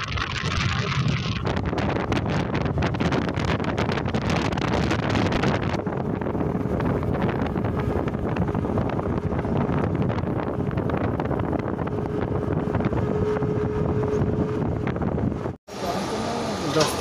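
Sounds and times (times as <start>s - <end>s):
wind rushing over microphone: 0.0s - 15.6s
engine and road noise: 0.0s - 17.0s.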